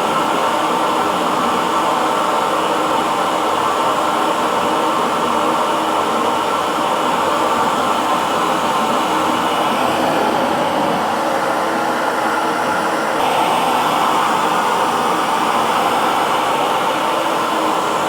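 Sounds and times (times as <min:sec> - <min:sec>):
hair dryer running: 0:01.9 - 0:18.0.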